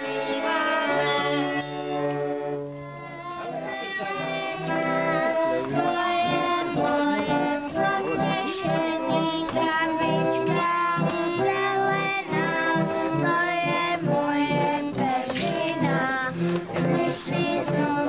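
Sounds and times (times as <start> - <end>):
bowed string instrument: 0.0 - 18.0
keyboard instrument: 0.0 - 18.0.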